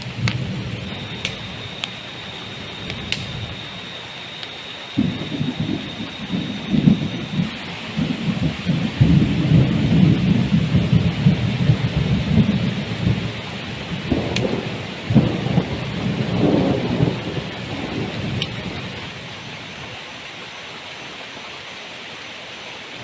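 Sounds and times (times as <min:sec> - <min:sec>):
rolling thunder rumble: 0:00.0 - 0:04.3, 0:04.9 - 0:19.6
heavy rain falling: 0:00.0 - 0:23.0.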